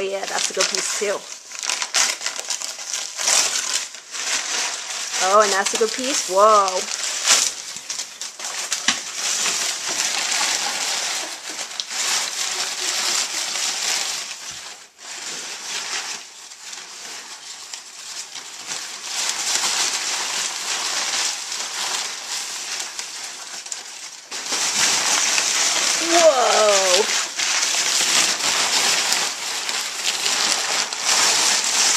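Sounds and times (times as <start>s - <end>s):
packing paper crinkling and rustling: 0.0s - 31.9s.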